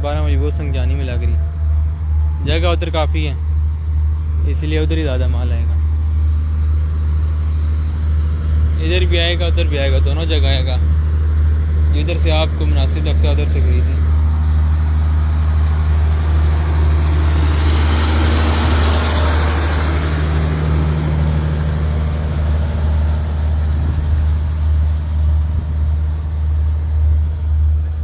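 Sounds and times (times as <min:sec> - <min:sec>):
low engine hum: 0:00.0 - 0:28.0
rushing noise: 0:00.0 - 0:28.0.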